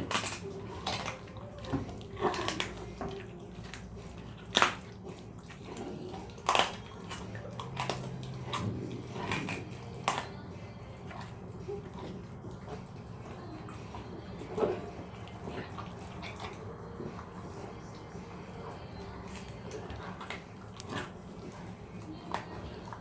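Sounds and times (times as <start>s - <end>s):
animal crunching bones: 0.0s - 23.0s.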